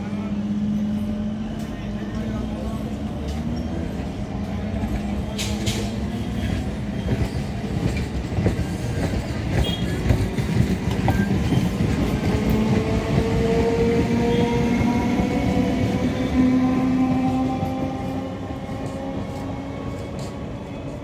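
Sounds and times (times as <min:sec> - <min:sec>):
train wheels rumbling and clattering: 0:00.4 - 0:21.0.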